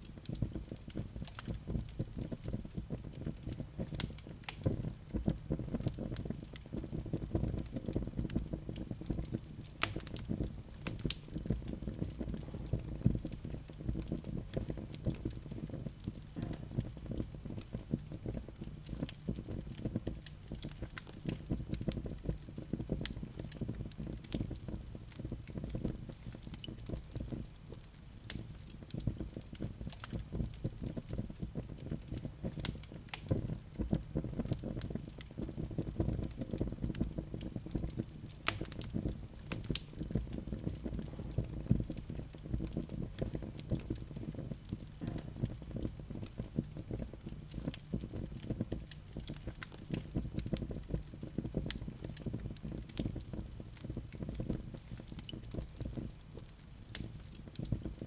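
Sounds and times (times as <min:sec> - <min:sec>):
logs crackling and popping: 0:00.0 - 0:58.0
fire flames rumbling: 0:00.1 - 0:58.0.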